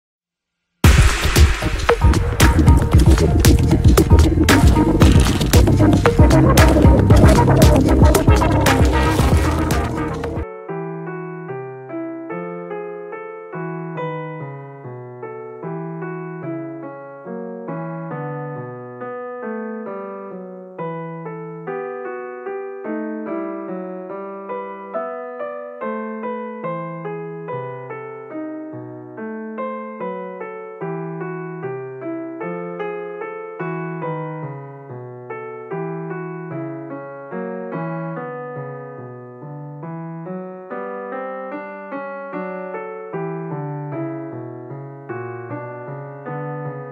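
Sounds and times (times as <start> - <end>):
gentle solo piano music: 2.0 - 46.9.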